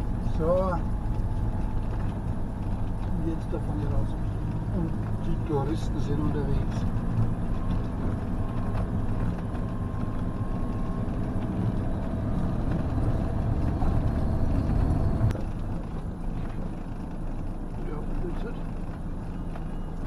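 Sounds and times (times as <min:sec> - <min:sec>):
engine and road noise hum: 0:00.0 - 0:20.0.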